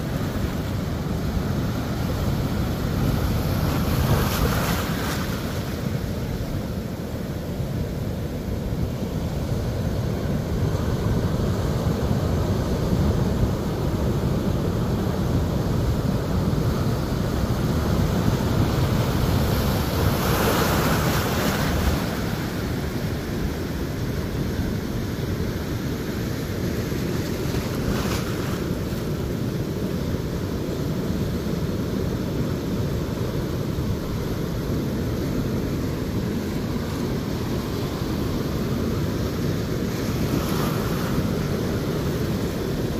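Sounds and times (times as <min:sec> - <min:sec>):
surf washing over sand: 0:00.0 - 0:42.9.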